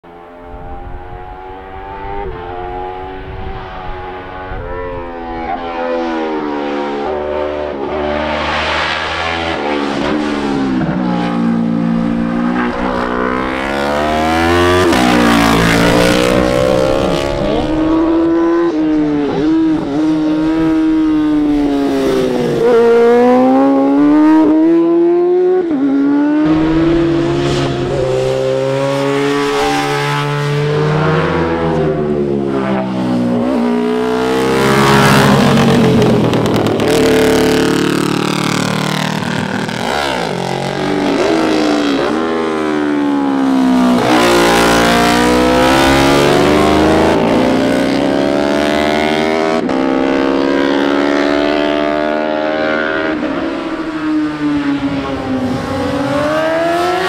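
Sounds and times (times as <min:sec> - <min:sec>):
racing motorcycles revving past: 0:01.0 - 0:57.0.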